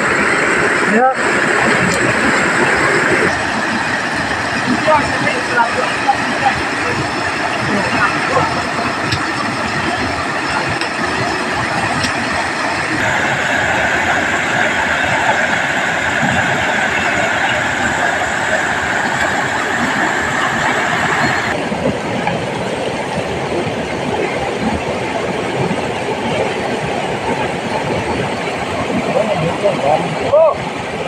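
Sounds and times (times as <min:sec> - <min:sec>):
river rushing over rapids: 0:00.0 - 0:31.0.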